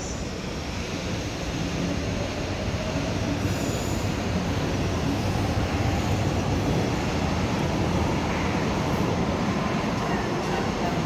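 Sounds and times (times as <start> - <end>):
electric train rail rumble: 0.0 - 11.0.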